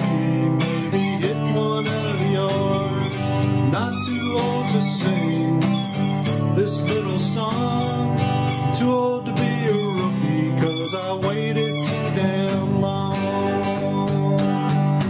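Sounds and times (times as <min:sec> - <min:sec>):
country song: 0:00.0 - 0:15.0
strummed acoustic guitar: 0:00.0 - 0:15.0.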